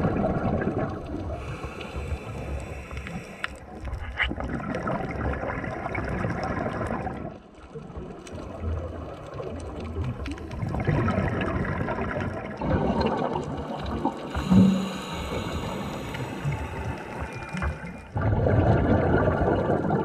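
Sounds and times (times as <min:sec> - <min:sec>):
muffled underwater rushing: 0:00.0 - 0:20.0.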